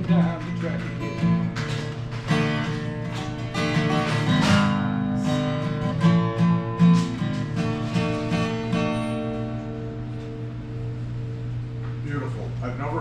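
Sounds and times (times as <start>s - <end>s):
acoustic guitar strumming: 0.0s - 12.3s.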